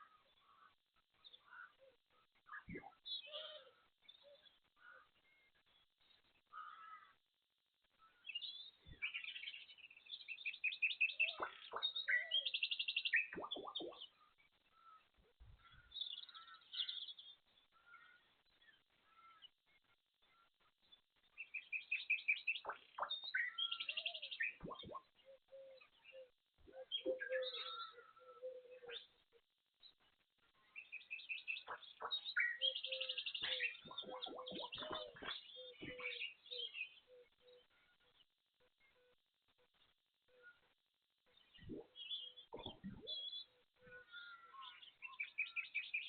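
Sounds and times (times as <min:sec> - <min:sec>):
small birds chirping and singing: 0:00.0 - 0:46.0.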